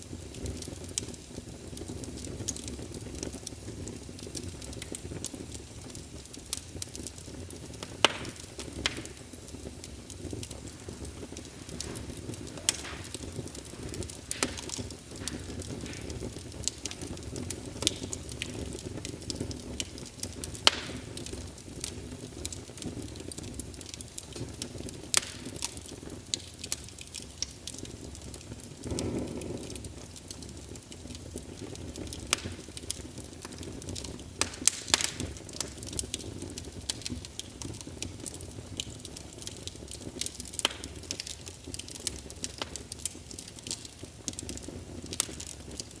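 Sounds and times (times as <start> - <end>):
fire crackling: 0.0 - 46.0.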